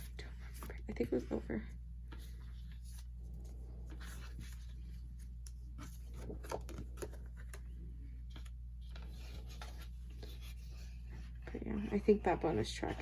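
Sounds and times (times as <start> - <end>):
steady low hum: 0.0 - 13.0
paper and cardboard rustling: 2.0 - 13.0.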